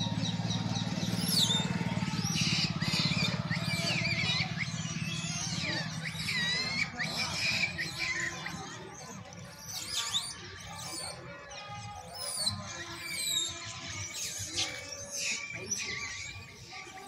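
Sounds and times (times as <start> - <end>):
birds chirping and whistling: 0.0 - 17.0.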